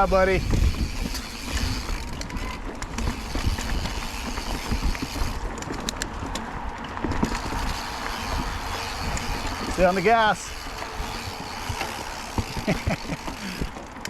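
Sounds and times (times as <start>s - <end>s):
bike clattering over roots: 0.0s - 14.0s
bike tyres rumbling on dirt: 0.0s - 14.0s
wind buffeting microphone: 0.0s - 14.0s.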